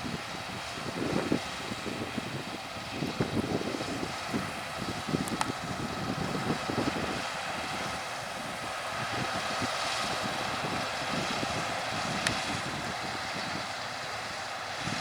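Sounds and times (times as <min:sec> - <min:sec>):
farm machinery engine drone: 0:00.0 - 0:15.0.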